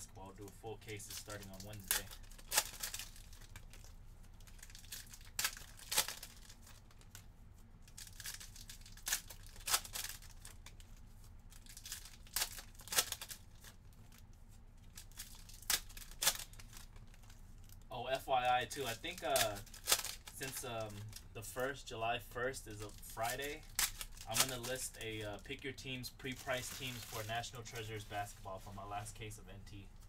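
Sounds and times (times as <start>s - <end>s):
foil wrappers crinkling and tearing: 0.0s - 7.2s, 7.9s - 29.4s.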